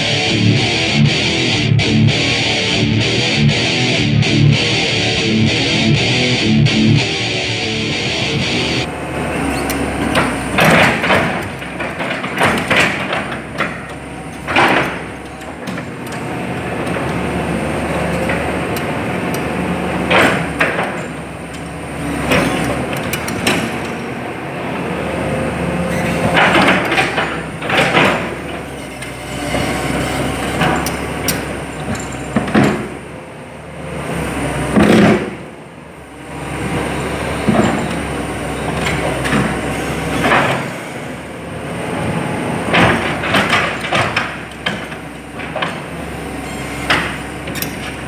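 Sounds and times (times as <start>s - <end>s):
excavator engine running: 0.0s - 48.0s.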